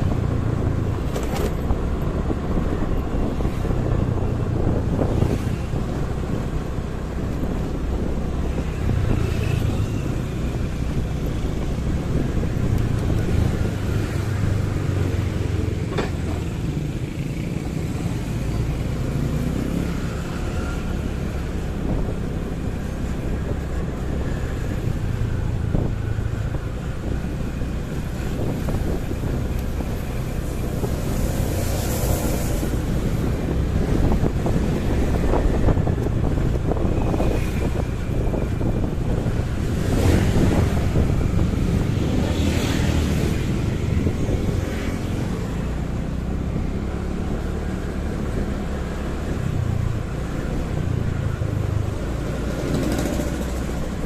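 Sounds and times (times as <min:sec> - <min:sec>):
engines rumbling: 0:00.0 - 0:54.0
road noise: 0:00.0 - 0:54.0
wind buffeting microphone: 0:00.0 - 0:54.0.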